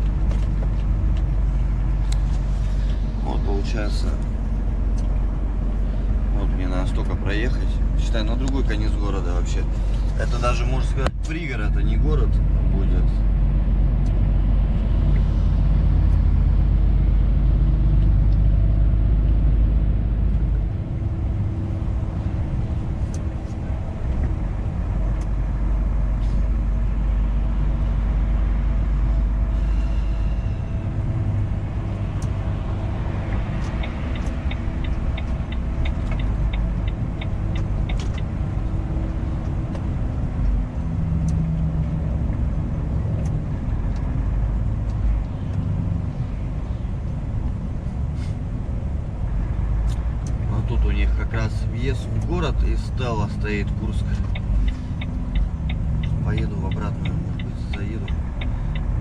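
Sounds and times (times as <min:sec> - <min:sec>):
road noise: 0:00.0 - 0:59.0
truck engine drone: 0:00.0 - 0:59.0.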